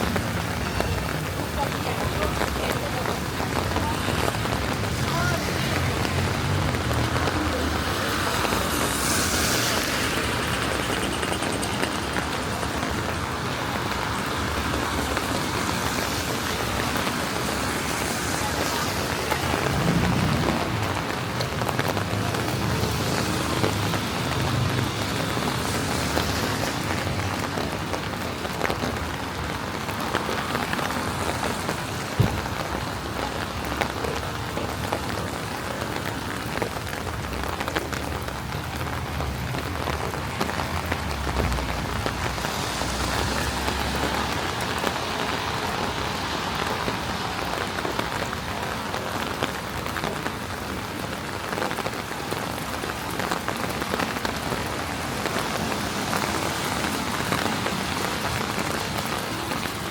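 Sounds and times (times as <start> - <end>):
rain on wet street: 0.0 - 59.9.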